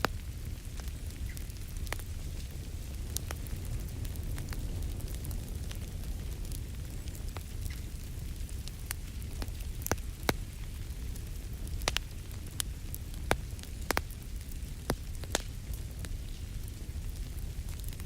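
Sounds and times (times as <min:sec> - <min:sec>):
low rumble of flames: 0:00.0 - 0:18.0
wood fire pops and snaps: 0:00.0 - 0:18.0.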